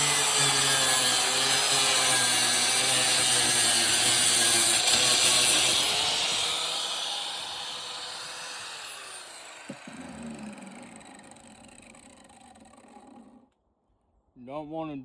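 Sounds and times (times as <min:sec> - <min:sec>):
angle grinder spinning down: 0:00.0 - 0:13.2.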